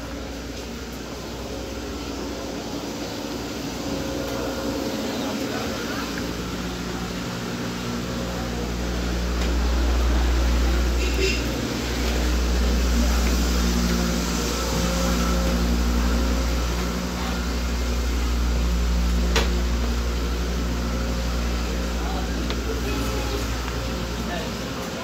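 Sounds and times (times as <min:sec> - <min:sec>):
tram rumble and hum: 0:00.0 - 0:25.0.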